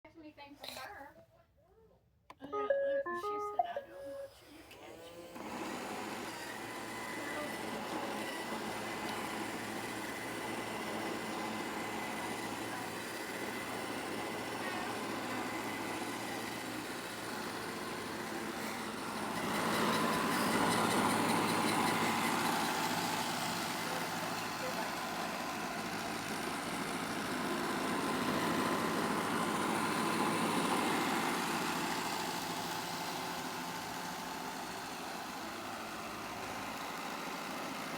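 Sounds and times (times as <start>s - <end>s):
robot vacuum humming: 4.0s - 37.9s.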